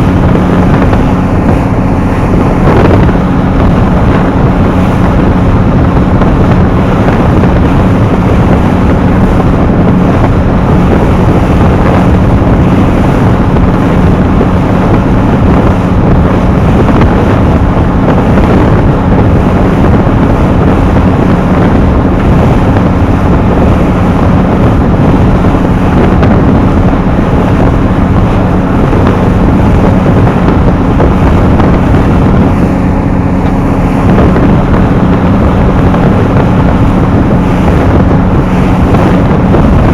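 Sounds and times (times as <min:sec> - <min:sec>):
boat engine humming: 0:00.0 - 0:39.9
wind buffeting microphone: 0:00.0 - 0:39.9.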